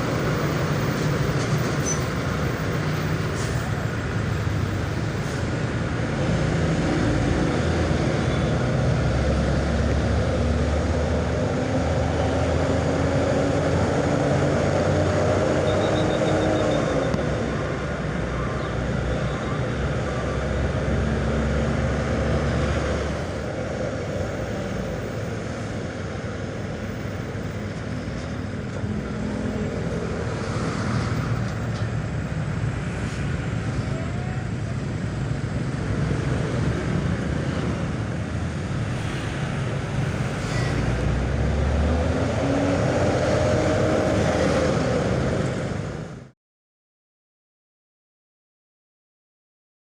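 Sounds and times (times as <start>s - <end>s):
road noise: 0.0s - 46.4s.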